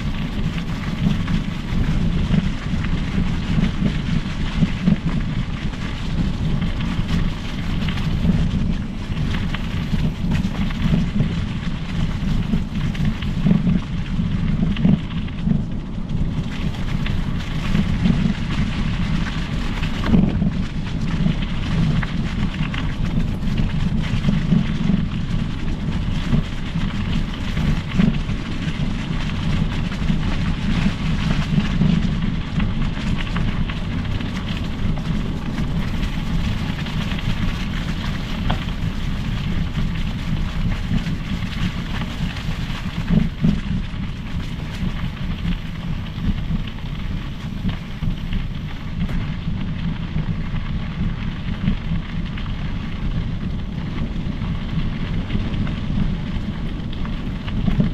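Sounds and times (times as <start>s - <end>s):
bike tyres rolling on trail: 0.0s - 57.9s
wind buffeting microphone: 0.0s - 57.9s.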